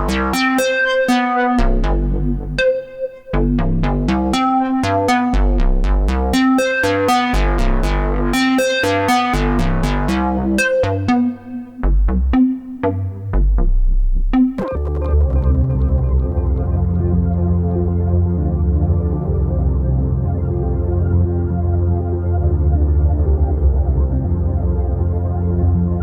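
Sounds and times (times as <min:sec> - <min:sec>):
synth bass: 0:00.0 - 0:26.0
synthesizer plucky sequenced notes: 0:00.0 - 0:26.0.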